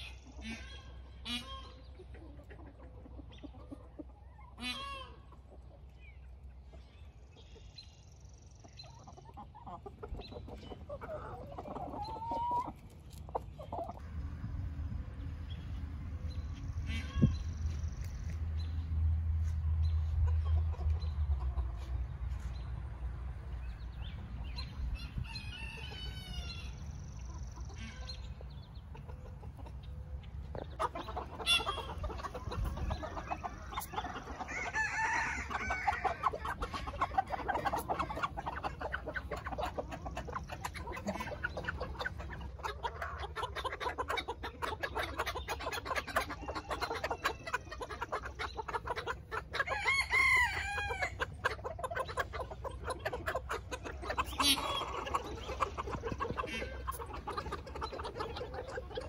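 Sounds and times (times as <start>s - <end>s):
chickens clucking and calling: 0.0s - 59.0s.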